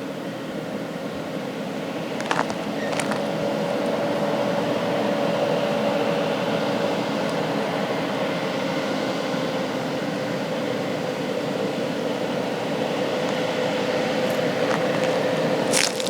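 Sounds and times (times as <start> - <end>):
engine whine: 0.0 - 16.0
truck diesel engine running: 0.0 - 16.0.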